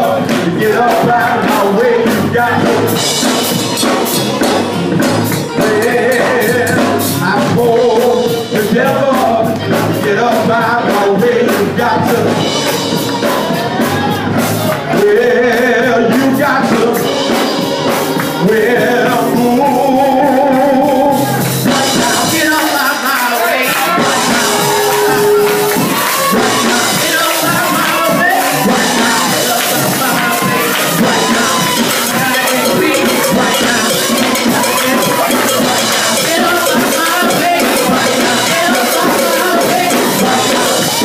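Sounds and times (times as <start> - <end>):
gospel singing: 0.0 - 41.0
tambourine beat: 0.0 - 41.0.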